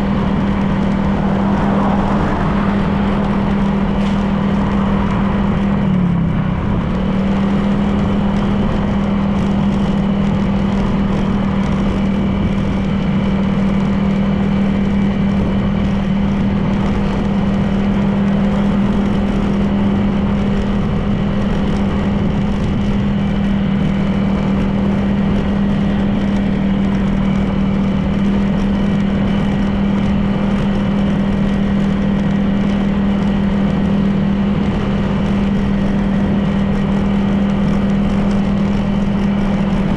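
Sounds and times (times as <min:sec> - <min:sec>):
road and wind noise: 0:00.0 - 0:39.9
scooter engine cruising: 0:00.0 - 0:39.9.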